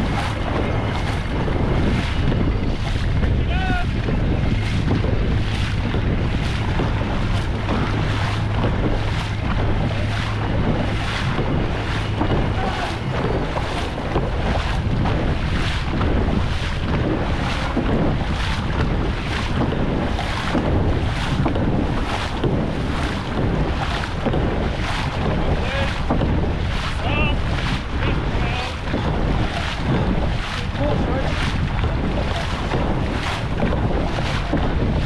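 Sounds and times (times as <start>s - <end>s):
low steady hum: 0.0s - 35.0s
paddles pulling through water: 0.0s - 35.0s
wind noise on microphone: 0.0s - 35.0s.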